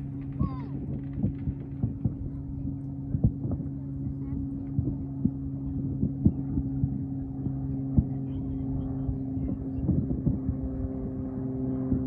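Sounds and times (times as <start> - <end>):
distant fireworks popping: 0.0 - 11.2
low steady hum: 0.0 - 12.0.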